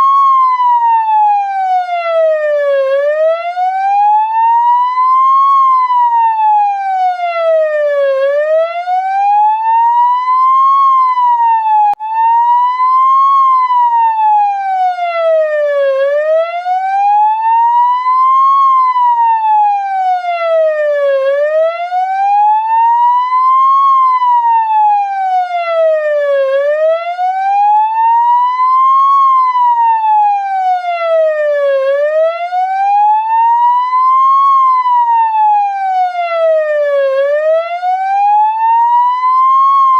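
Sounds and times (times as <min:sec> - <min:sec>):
ambulance siren wailing: 0:00.0 - 0:39.9.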